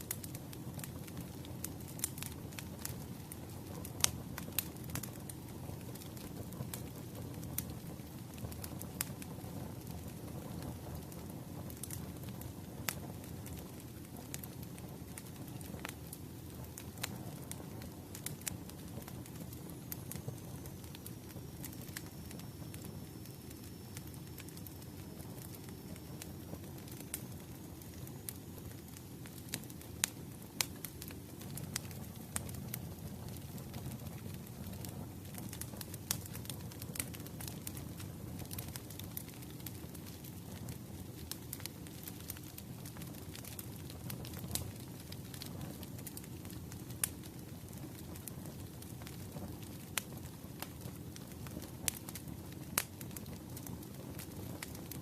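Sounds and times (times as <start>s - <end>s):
fire crackling and popping: 0.0s - 55.0s
low rush of flames: 0.0s - 55.0s.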